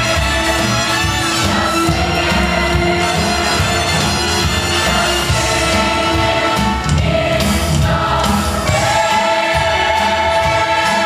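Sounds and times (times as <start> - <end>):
instrumental accompaniment: 0.0 - 11.0
chorus singing long notes: 1.2 - 11.0.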